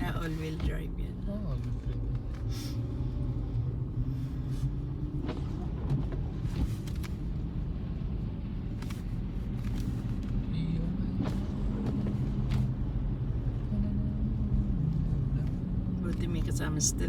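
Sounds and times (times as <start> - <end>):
car cabin rumble: 0.0 - 17.0.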